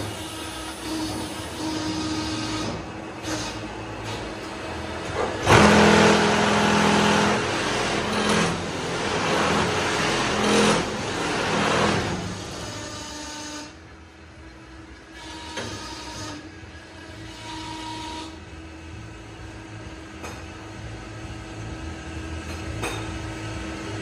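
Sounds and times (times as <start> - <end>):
hydraulic press drone under load: 0.0 - 24.0
machine hum: 0.0 - 24.0.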